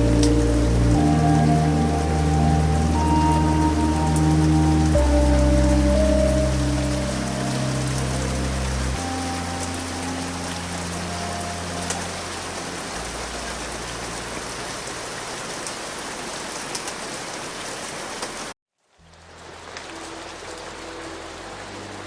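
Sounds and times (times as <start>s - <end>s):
soft low music tones: 0.0s - 14.9s, 19.0s - 22.0s
rain patter: 0.0s - 22.0s.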